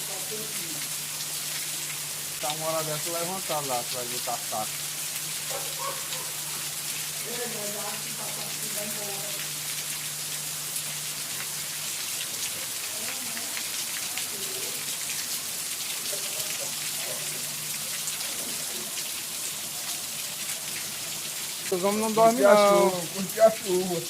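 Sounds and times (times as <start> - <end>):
raindrops ticking on surfaces: 0.0 - 24.0
steady rainfall: 0.0 - 24.0.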